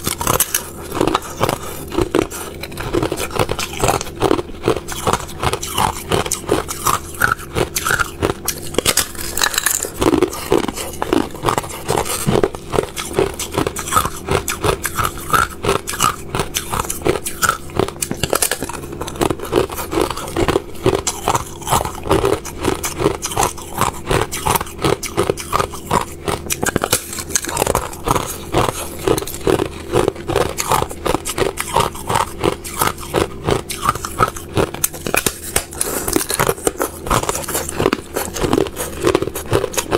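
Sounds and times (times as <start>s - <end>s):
ice being crunched in mouth: 0.0s - 39.9s.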